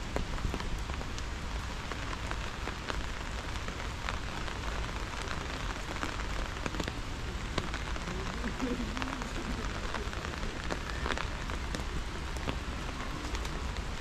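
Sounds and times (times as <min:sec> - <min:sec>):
rain falling: 0:00.0 - 0:14.0
raindrops ticking: 0:00.0 - 0:14.0.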